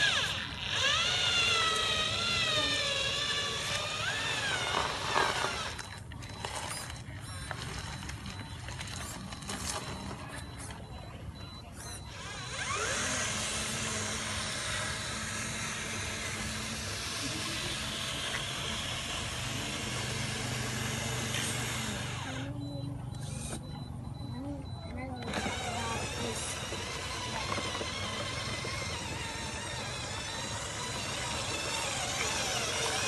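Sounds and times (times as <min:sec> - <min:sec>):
toy truck motor whirring: 0:00.0 - 0:33.0.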